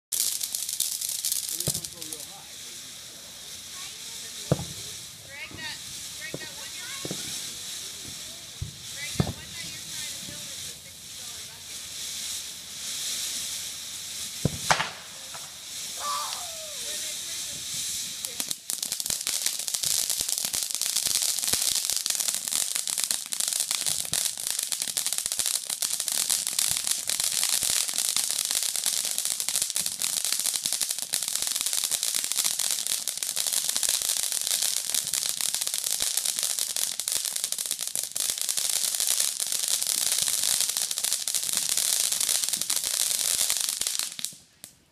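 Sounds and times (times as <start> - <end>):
firework fountain hissing: 0.1 - 44.5
firework sparks crackling: 0.1 - 44.9.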